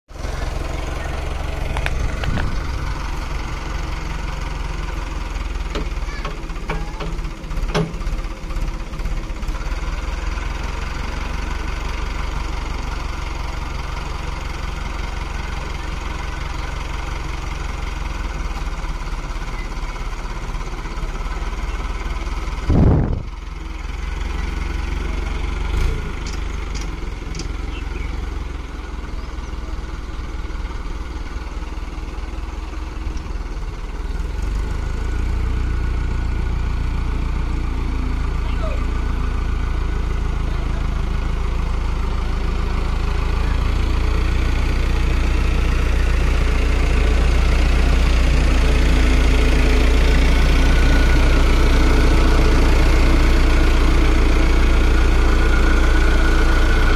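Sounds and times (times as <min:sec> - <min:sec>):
tractor diesel engine running: 0:00.1 - 0:56.9.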